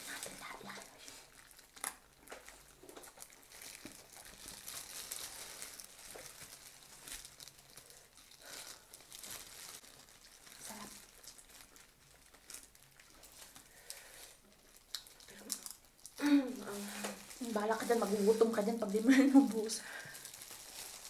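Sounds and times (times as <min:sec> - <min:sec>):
crackles and clicks of eating: 0:00.0 - 0:21.0
plastic gloves crinkling: 0:00.0 - 0:21.0.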